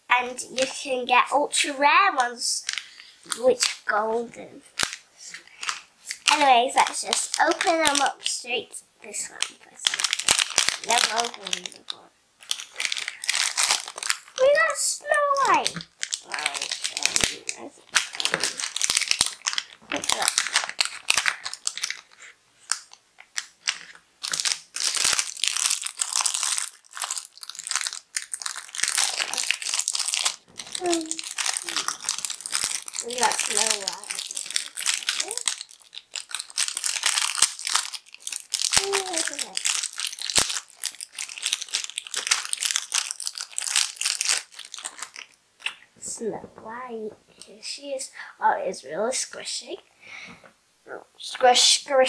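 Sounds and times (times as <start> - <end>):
plastic bag crinkling: 2.6 - 3.8, 4.7 - 8.4, 9.2 - 46.8.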